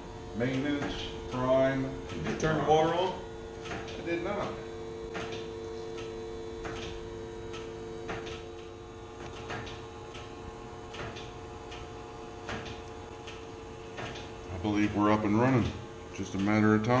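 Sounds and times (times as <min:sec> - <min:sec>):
low two-note mechanical hum: 0:00.0 - 0:17.0.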